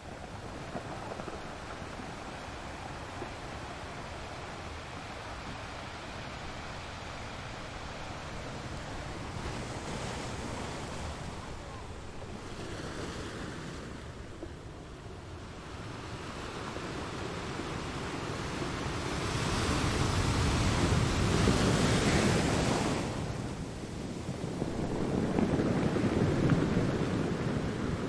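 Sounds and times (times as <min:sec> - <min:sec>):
waves breaking: 0:00.0 - 0:28.0
wind blowing: 0:00.0 - 0:28.0.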